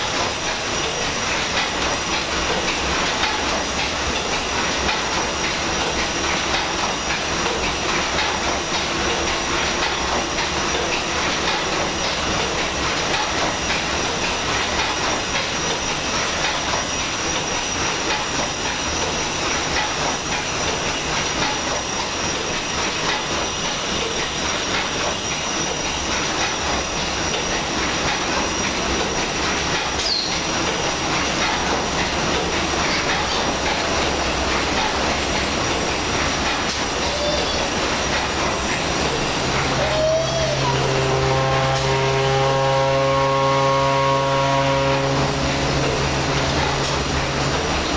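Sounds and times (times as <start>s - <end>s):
steam engine clattering: 0.0s - 47.9s.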